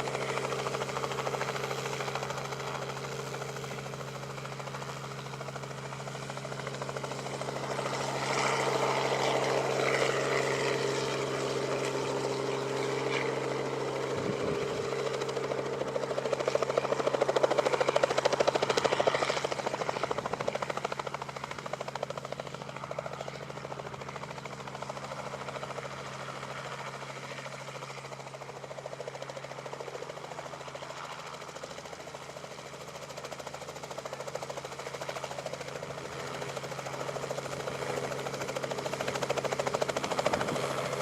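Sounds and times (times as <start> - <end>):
helicopter engine hum: 0.0 - 41.0
helicopter rotor pulsing: 0.0 - 41.0.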